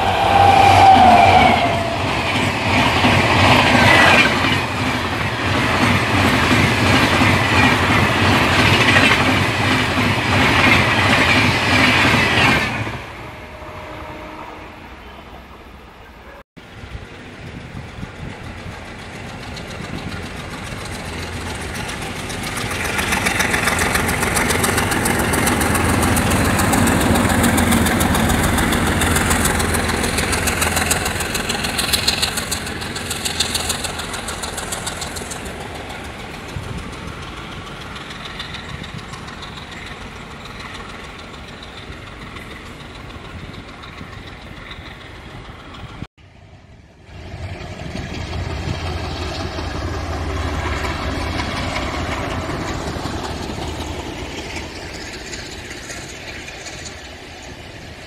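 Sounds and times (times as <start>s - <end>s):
coaches rolling over rails: 0.0s - 14.3s, 15.1s - 46.1s, 46.7s - 58.0s
diesel locomotive engine: 0.0s - 58.0s.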